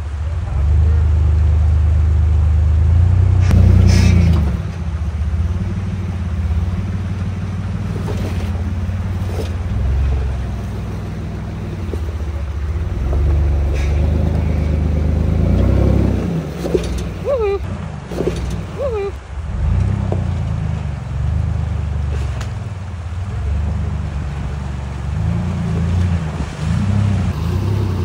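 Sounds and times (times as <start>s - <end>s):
vehicle engine crawling: 0.0s - 28.0s.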